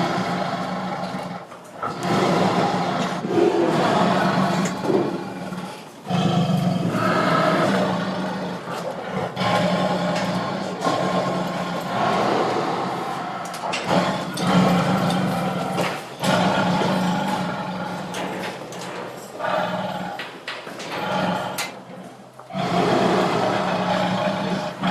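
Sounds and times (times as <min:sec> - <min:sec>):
tiger growling: 0:00.0 - 0:24.9.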